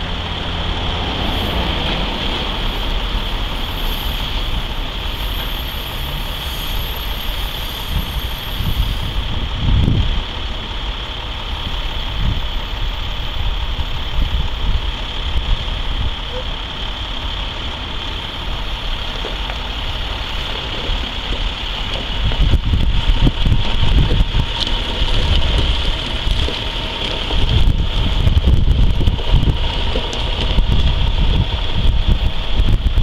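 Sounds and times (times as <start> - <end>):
track machine engines running: 0.0 - 33.0
wind buffeting microphone: 0.0 - 33.0.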